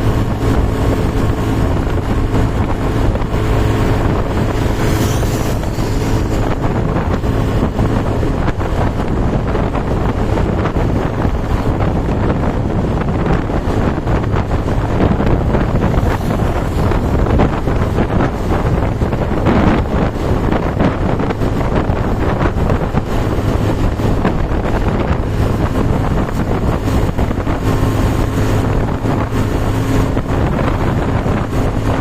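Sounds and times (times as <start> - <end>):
engine hum: 0.0 - 32.0
wind buffeting microphone: 0.0 - 32.0.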